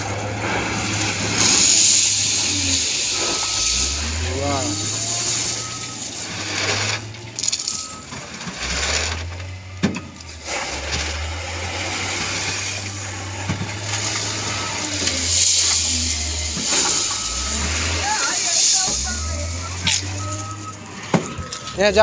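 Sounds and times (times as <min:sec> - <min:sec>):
diesel engine droning: 0:00.0 - 0:22.0
gravel rattling: 0:00.0 - 0:22.0.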